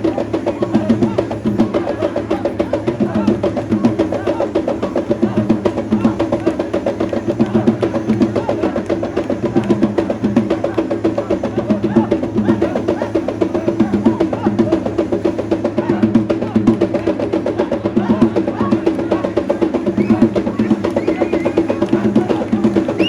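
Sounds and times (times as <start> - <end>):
music with fast drumming: 0.0 - 23.0.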